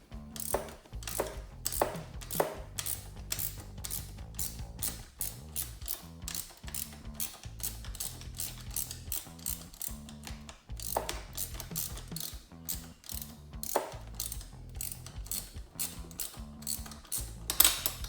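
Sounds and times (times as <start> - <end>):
crisp percussion ticks: 0.0 - 18.0
low bass line: 0.0 - 18.0.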